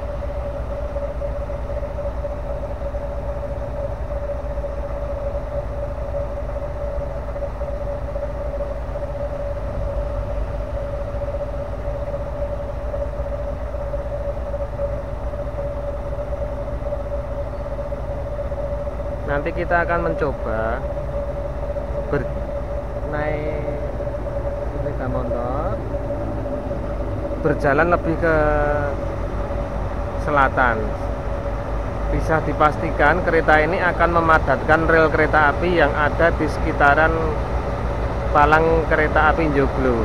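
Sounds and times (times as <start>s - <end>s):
constant hum: 0.0s - 40.0s
diesel engine idling: 0.0s - 40.0s.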